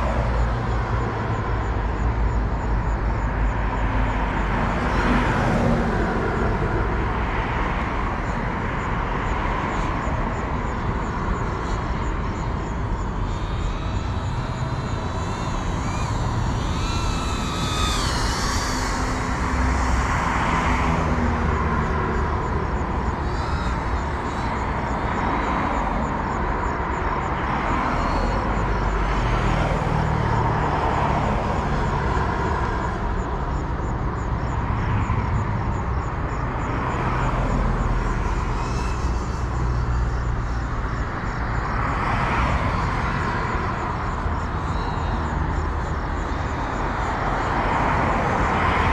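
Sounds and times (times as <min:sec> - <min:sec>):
drone motors and propellers buzzing: 0:00.0 - 0:48.9.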